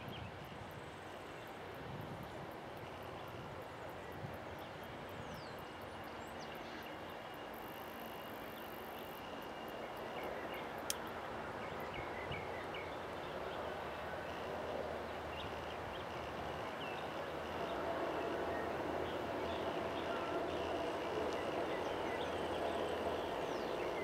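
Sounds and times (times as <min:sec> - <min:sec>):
distant turboprop airliner taking off: 0:04.4 - 0:24.0.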